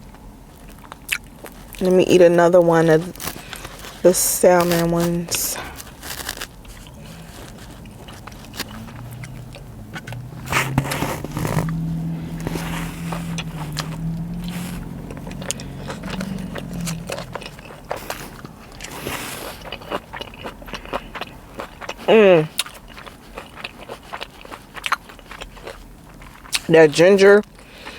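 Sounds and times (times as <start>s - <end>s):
chewing and biting food: 0.0s - 27.9s
low steady hum: 0.0s - 27.9s.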